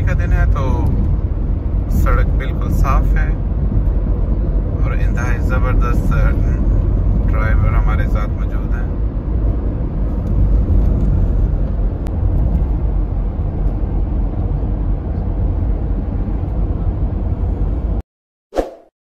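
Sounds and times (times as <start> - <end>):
car road noise rumble: 0.0 - 18.0.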